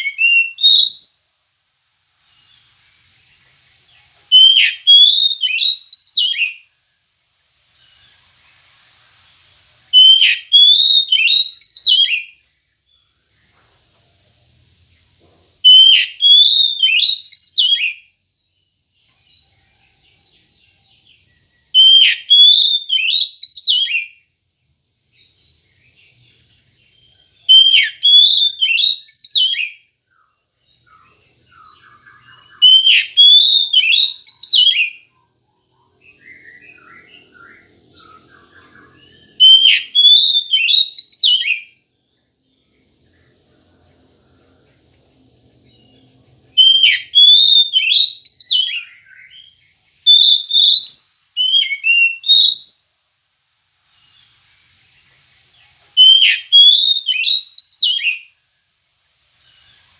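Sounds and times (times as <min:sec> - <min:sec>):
bird singing whistled notes: 0:00.0 - 0:01.4, 0:02.2 - 0:07.1, 0:07.7 - 0:13.6, 0:14.8 - 0:53.0, 0:55.0 - 0:58.6
faint bird chirps: 0:00.0 - 0:53.2, 0:53.8 - 0:59.9.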